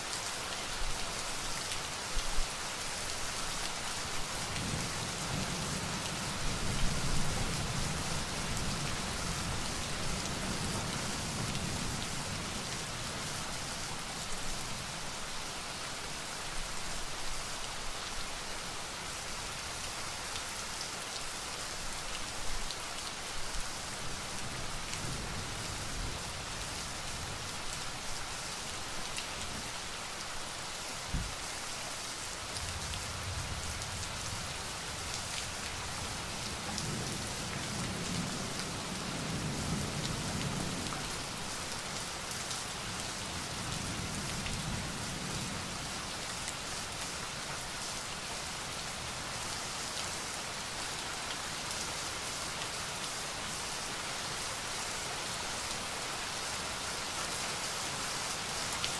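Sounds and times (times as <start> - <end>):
rain on hard surfaces: 0.0 - 58.9.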